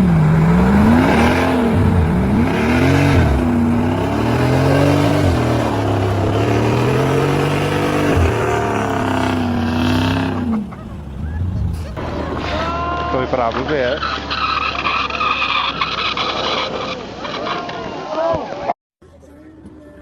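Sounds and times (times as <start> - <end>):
vehicle engine revving: 0.0 - 17.5.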